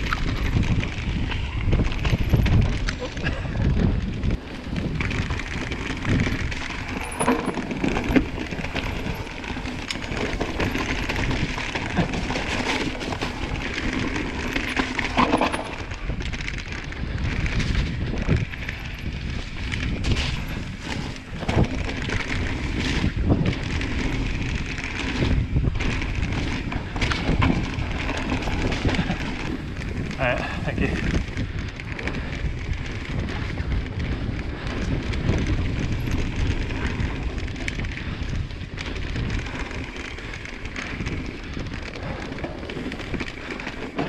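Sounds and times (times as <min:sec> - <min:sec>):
bike tyres and rattling: 0:00.0 - 0:44.0.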